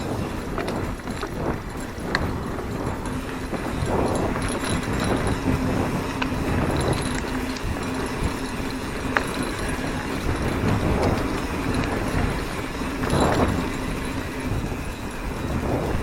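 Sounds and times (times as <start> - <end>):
bike tyres rolling on dirt: 0.0 - 16.0
chain and frame rattling: 0.0 - 16.0.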